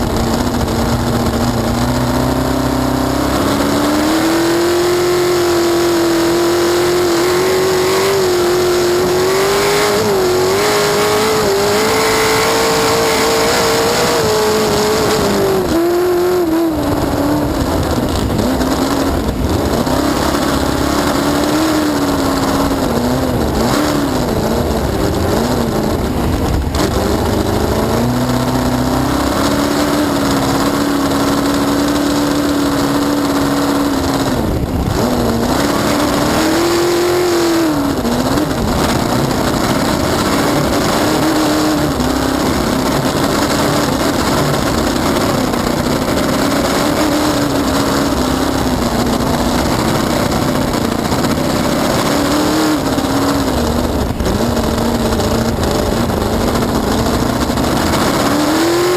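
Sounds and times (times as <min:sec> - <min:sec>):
boat engine running hard: 0:00.0 - 0:58.9.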